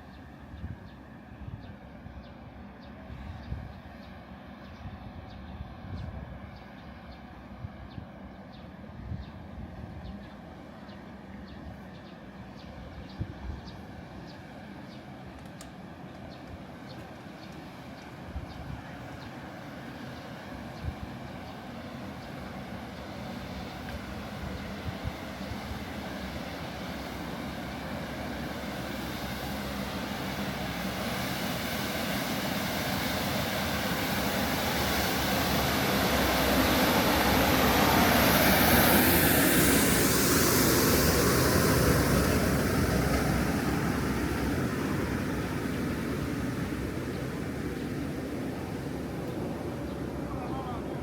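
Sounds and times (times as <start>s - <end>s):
aircraft engine passing overhead: 0.0s - 51.0s
high engine whine: 0.0s - 51.0s.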